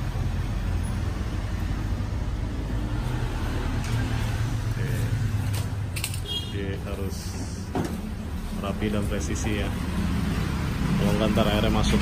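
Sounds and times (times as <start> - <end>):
workshop low rumble: 0.0 - 12.0.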